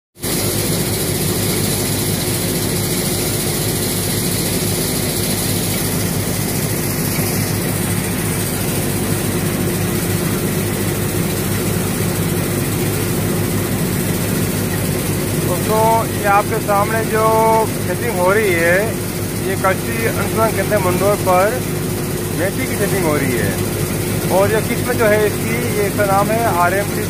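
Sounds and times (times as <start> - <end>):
threshing machine engine drone: 0.2 - 27.0.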